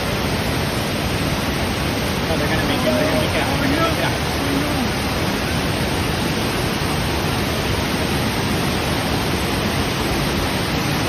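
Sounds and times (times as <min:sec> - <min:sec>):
waterfall torrent rushing: 0:00.0 - 0:11.0.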